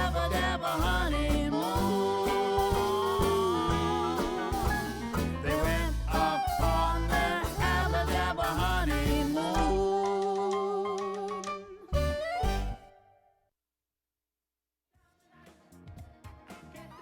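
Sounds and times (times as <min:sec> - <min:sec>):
swing music: 0:00.0 - 0:13.1, 0:15.6 - 0:17.0.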